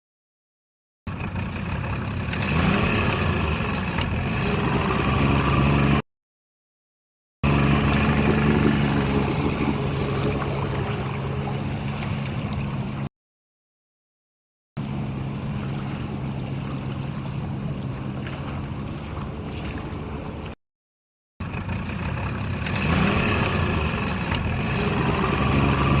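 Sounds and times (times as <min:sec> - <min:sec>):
vehicle engine running: 0:01.1 - 0:06.0, 0:07.4 - 0:13.1, 0:14.8 - 0:20.6, 0:21.4 - 0:26.0.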